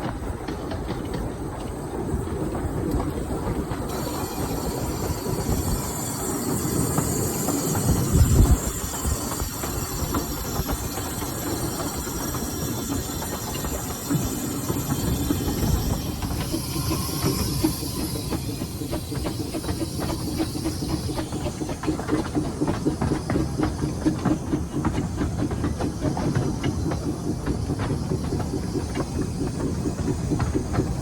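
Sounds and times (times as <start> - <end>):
train wheels clickety-clack: 0.0 - 31.0
steam hissing: 3.9 - 31.0.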